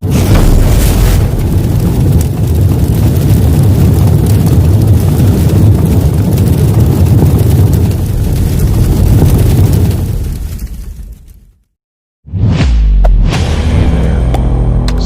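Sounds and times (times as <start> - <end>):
deep rumble: 0.0 - 11.6, 12.3 - 15.0.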